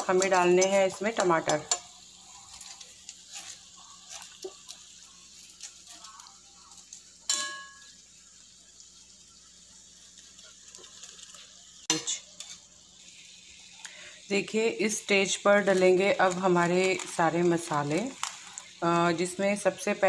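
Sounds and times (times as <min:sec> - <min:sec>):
metal spoon stirring onions: 0:00.0 - 0:08.6, 0:09.9 - 0:20.0.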